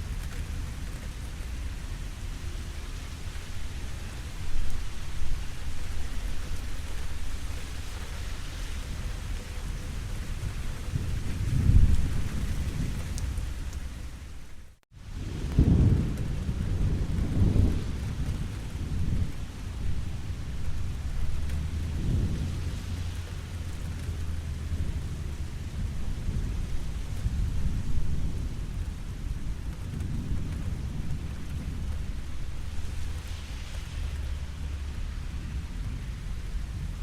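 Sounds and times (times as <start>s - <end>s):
rolling thunder: 0.0s - 37.0s
steady rainfall: 0.0s - 37.0s.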